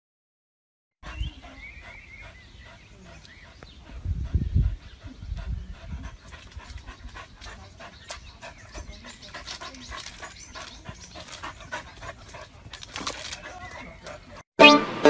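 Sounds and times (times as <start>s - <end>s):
dog panting: 1.0s - 14.4s.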